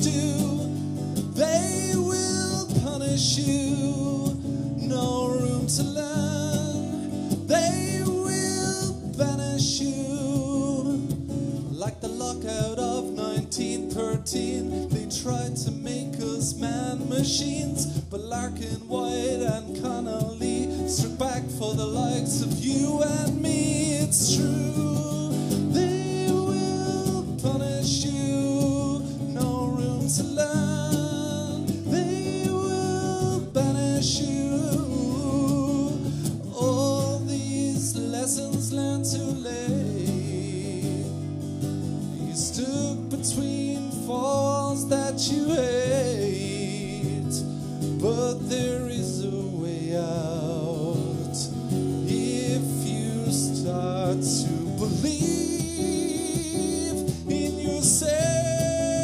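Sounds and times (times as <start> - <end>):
man singing: 0.0 - 41.4, 42.0 - 59.0
strummed acoustic guitar: 0.0 - 59.0.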